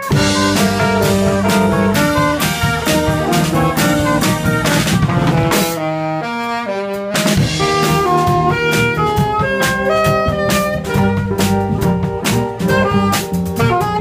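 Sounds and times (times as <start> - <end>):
drum kit with cymbals: 0.0 - 14.0
saxophone melody: 0.0 - 14.0
trumpet playing: 0.0 - 14.0.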